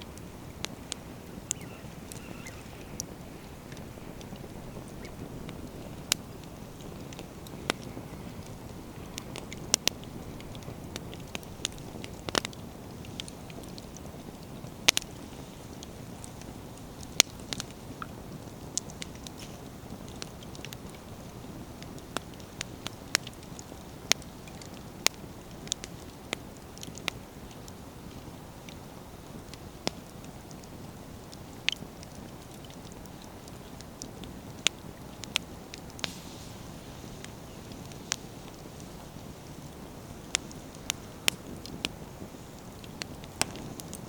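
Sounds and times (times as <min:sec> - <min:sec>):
firewood popping and crackling: 0:00.0 - 0:44.0
flame rumbling: 0:00.0 - 0:44.0.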